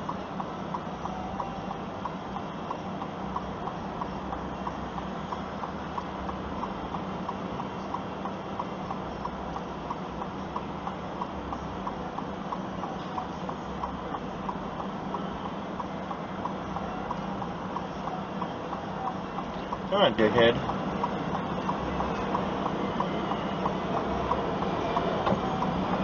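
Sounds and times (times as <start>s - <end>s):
engine hum: 0.0s - 26.0s
indicator flasher ticking: 0.0s - 26.0s.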